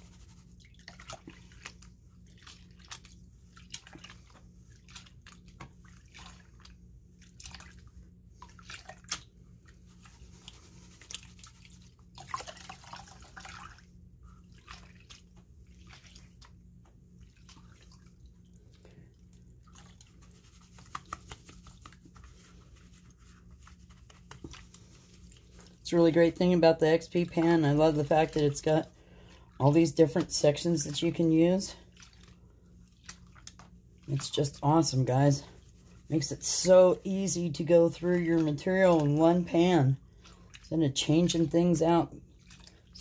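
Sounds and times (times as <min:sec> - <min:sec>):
water sloshing and splashing: 0:00.0 - 0:43.0.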